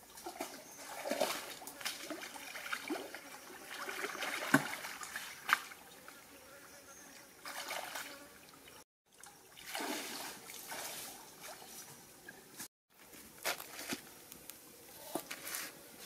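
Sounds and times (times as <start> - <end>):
stream water splashing and trickling: 0.0 - 6.3, 7.2 - 14.1.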